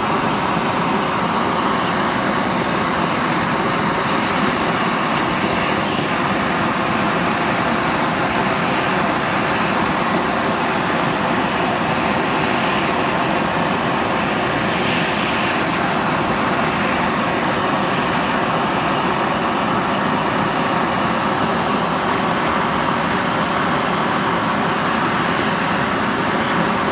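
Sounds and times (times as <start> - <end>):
blowtorch flame rushing: 0.0 - 26.9.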